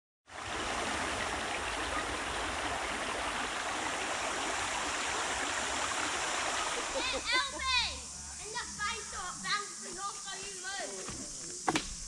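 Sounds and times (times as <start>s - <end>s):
flowing stream water: 0.3s - 12.0s.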